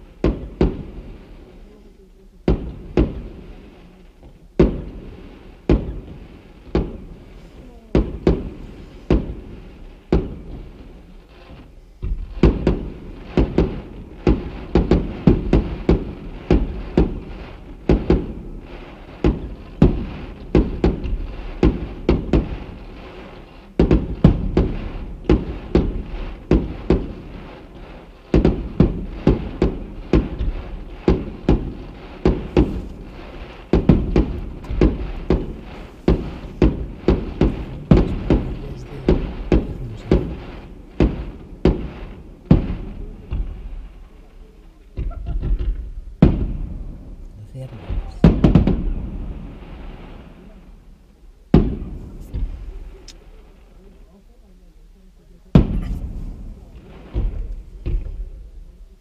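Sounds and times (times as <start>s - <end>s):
fireworks bursting with sharp bangs: 0.0s - 59.0s.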